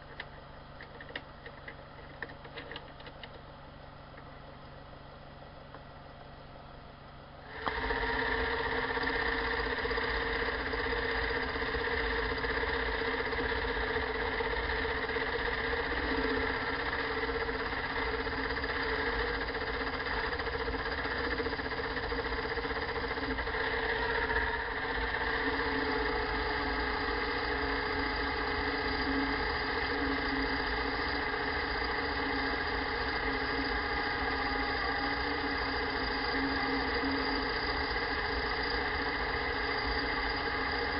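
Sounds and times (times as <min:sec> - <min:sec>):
machine tool motor whine: 0:07.4 - 0:40.9.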